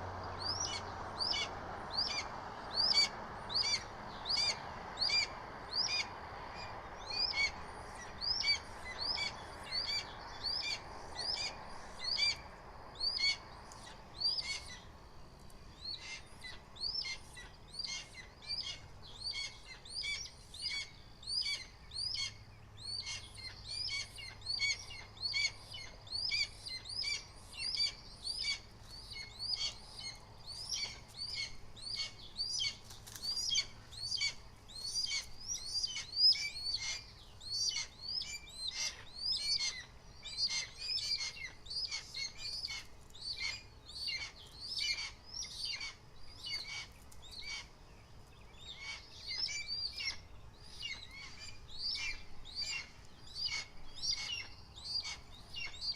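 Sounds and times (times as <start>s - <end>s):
birds calling sharp notes: 0.0s - 55.9s.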